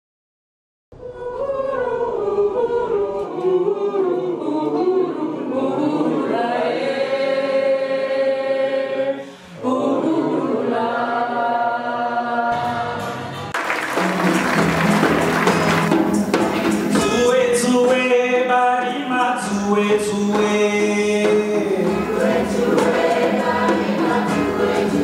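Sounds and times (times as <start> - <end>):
choir singing a cappella: 1.0 - 16.0, 16.6 - 25.0.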